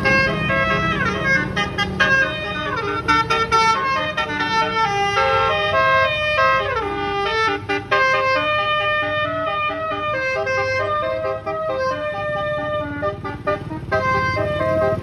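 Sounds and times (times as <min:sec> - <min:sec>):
musical bus horn playing tune: 0:00.0 - 0:15.0.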